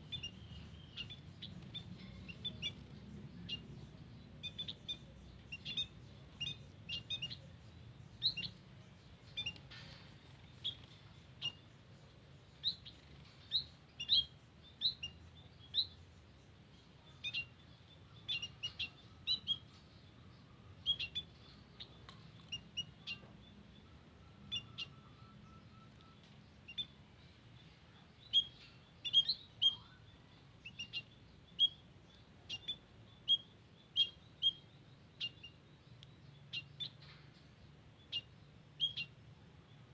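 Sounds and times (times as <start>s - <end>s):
birds chirping: 0.0s - 39.9s
faint low hum: 0.0s - 39.9s.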